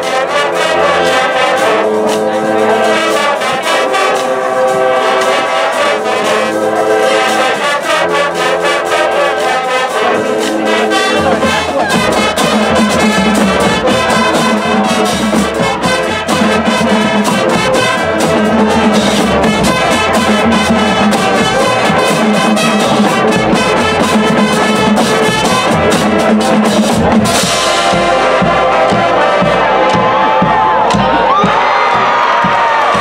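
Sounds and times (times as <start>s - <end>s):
brass band playing: 0.0s - 33.0s
marching drums: 0.0s - 33.0s.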